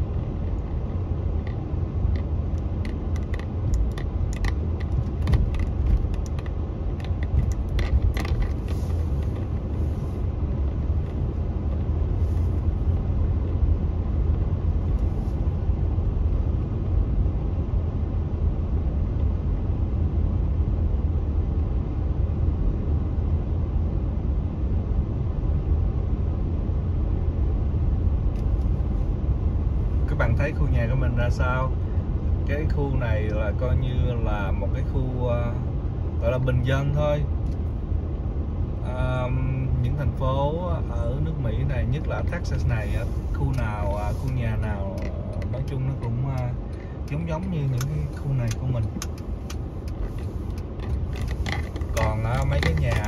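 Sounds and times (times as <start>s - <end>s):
car driving rumble from inside: 0.0s - 53.0s.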